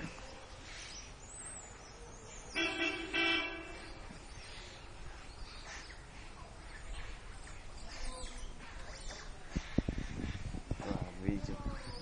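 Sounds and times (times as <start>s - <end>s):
birds calling: 0.0s - 12.0s
steady outdoor hiss: 0.0s - 12.0s.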